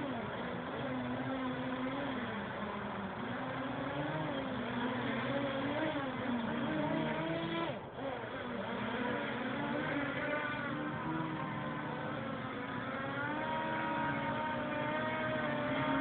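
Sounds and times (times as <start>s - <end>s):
quadcopter motors buzzing: 0.0s - 16.0s.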